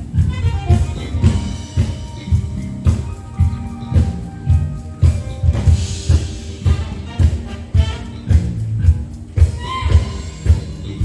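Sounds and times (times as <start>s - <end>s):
low drum beat: 0.0s - 11.0s.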